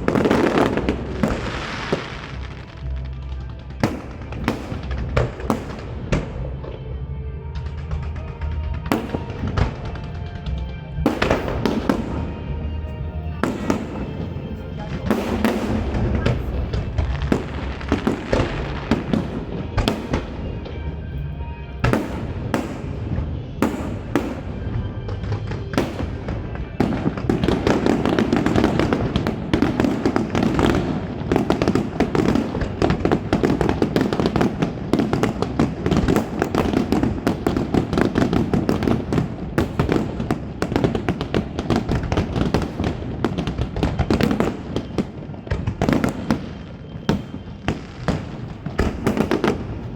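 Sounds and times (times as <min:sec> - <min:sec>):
fireworks bangs and crackle: 0:00.0 - 0:49.9.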